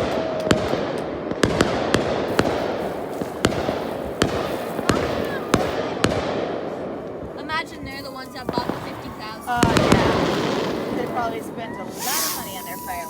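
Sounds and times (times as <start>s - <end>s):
distant fireworks bursts: 0.0s - 13.0s
fireworks sharp bangs: 0.0s - 13.0s.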